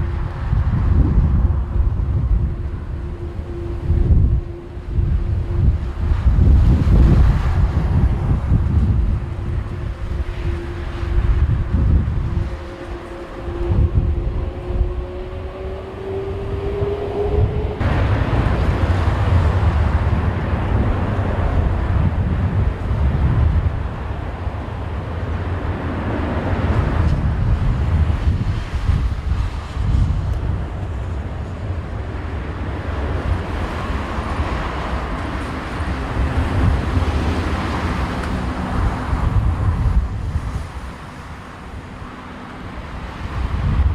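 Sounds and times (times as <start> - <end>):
jet engine whine and roar: 0.0 - 43.9
wind buffeting microphone: 0.0 - 43.9.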